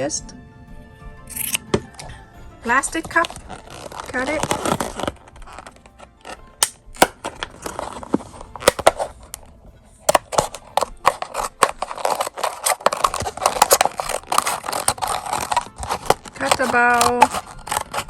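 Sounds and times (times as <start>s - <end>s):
scissors cutting plastic cup: 1.3s - 9.5s, 10.1s - 18.0s.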